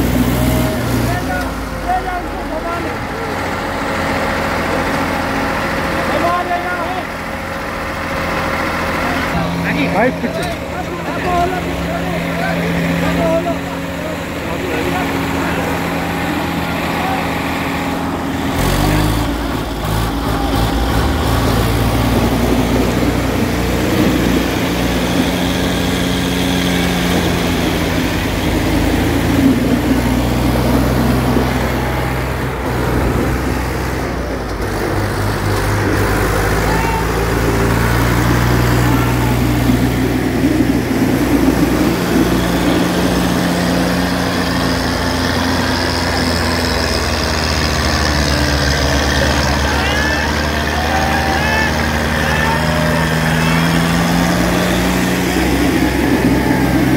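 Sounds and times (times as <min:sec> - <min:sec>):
tractor engines revving under load: 0:00.0 - 0:56.9.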